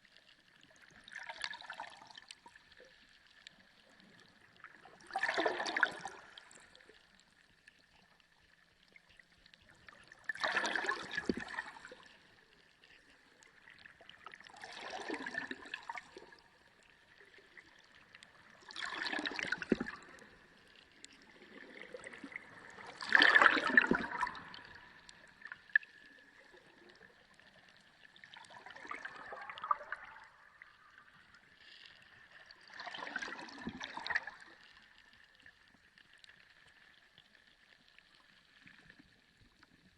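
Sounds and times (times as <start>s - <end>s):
underwater surges of bubbling water: 0.0s - 39.9s.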